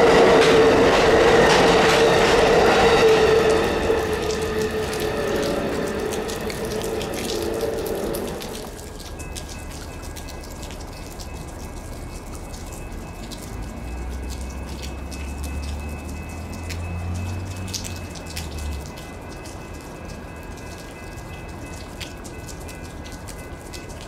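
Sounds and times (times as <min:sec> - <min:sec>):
rain dripping and pattering: 0:00.0 - 0:24.0.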